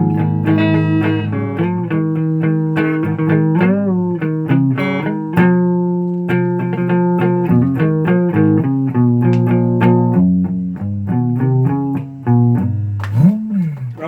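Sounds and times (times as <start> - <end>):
guitar plucking low notes: 0.0 - 14.0.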